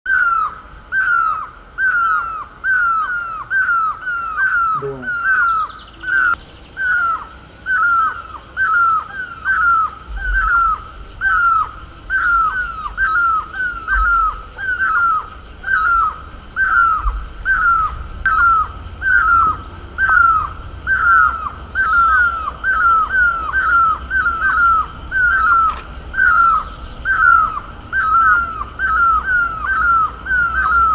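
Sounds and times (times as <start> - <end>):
bird calling with falling note: 0.1 - 30.9.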